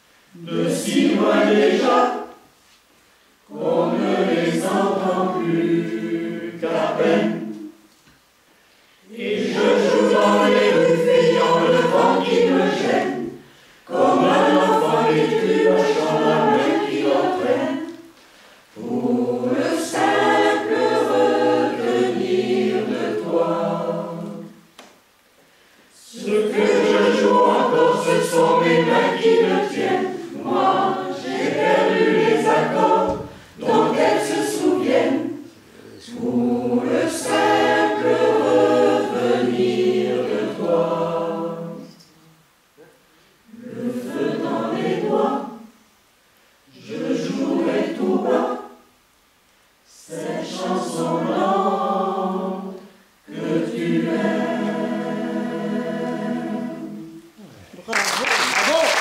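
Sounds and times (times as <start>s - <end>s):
mixed choir singing: 0.3s - 2.4s, 3.4s - 7.8s, 9.0s - 24.8s, 25.9s - 42.2s, 43.4s - 45.8s, 46.7s - 48.9s, 49.9s - 57.4s.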